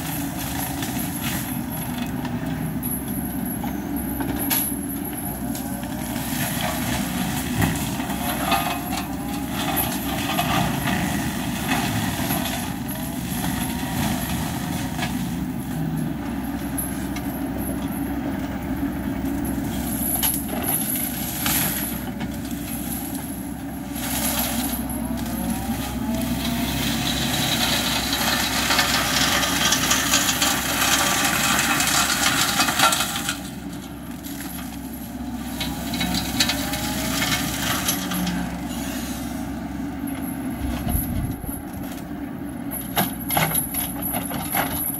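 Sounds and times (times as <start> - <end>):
diesel engine under load: 0.0 - 44.9
mulcher shredding branches: 0.0 - 44.9.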